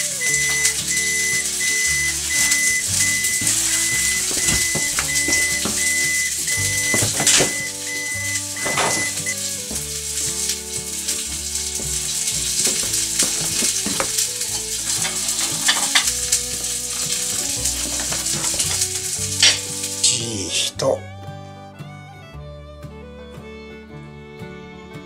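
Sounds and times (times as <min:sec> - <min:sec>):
sizzle-like hiss with clicks: 0:00.0 - 0:20.6
background music: 0:00.0 - 0:25.0.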